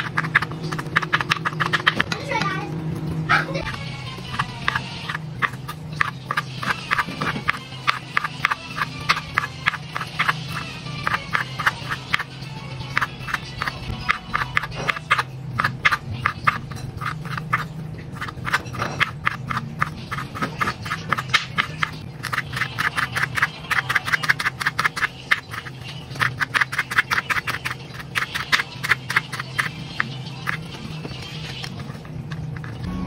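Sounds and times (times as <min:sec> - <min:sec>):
knife cutting on plastic board: 0:03.6 - 0:12.3, 0:12.9 - 0:32.8.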